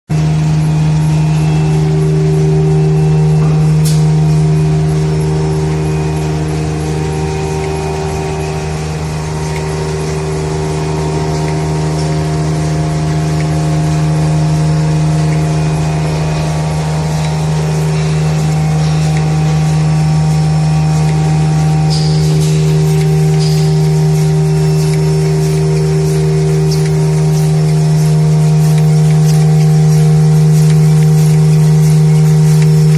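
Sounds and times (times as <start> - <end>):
folding machine humming: 0.1 - 32.9.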